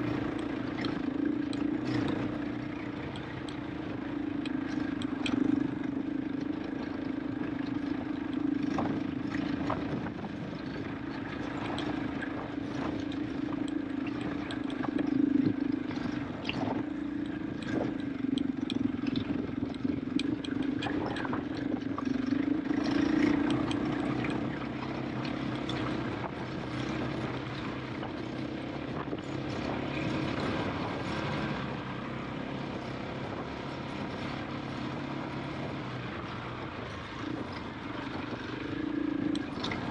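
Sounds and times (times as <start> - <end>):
motorcycle engine pulling on a climb: 0.0 - 39.9.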